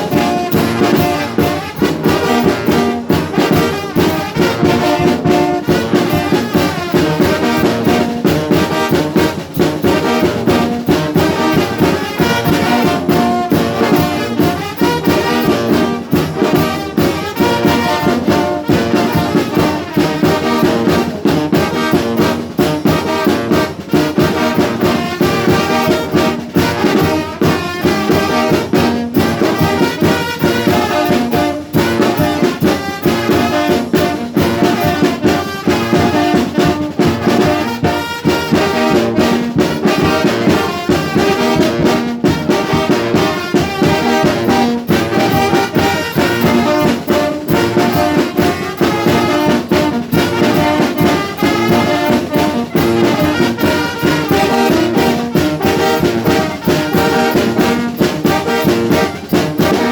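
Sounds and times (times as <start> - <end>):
brass band playing dance tune: 0.0 - 59.9.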